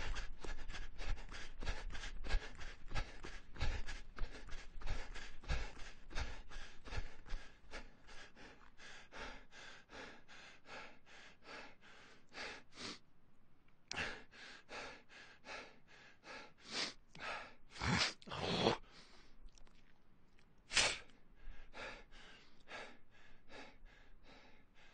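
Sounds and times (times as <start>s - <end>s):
person breathing hard: 0.0s - 13.0s, 13.9s - 19.4s, 20.8s - 24.9s.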